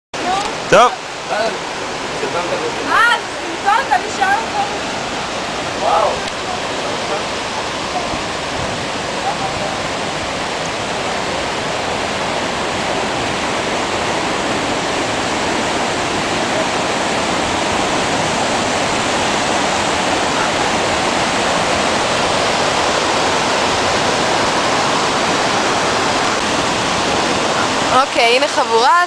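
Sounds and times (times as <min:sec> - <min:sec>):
waterfall and stream rushing: 0:00.2 - 0:29.0.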